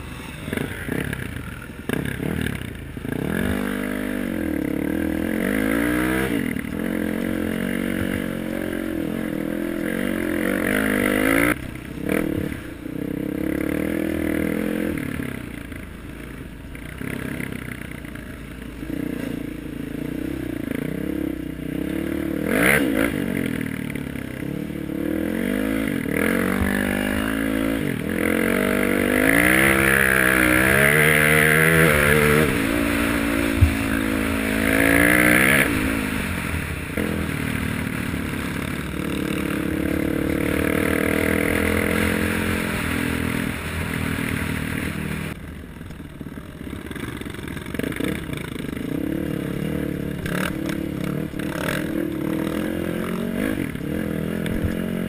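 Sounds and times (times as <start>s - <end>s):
motorbike engine revving: 0.0s - 15.8s, 18.8s - 45.4s, 46.4s - 55.0s.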